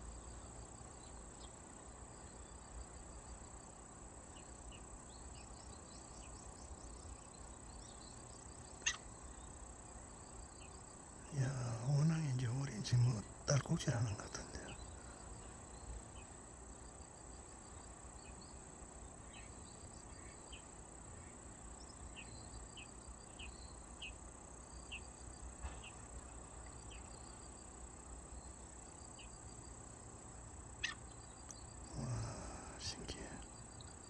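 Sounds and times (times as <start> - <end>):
insect drone: 0.0 - 34.0.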